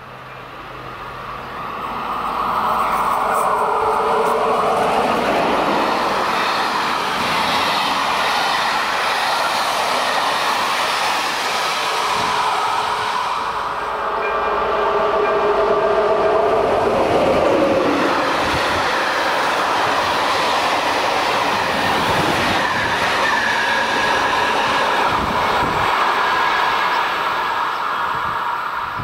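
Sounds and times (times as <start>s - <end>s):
train wheels rushing on rails: 0.0s - 29.0s.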